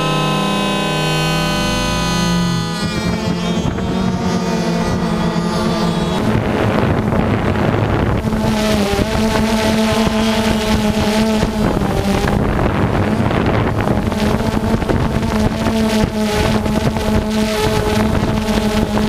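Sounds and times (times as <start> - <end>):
small motors humming: 0.0 - 19.0
wind noise on microphone: 0.0 - 19.0.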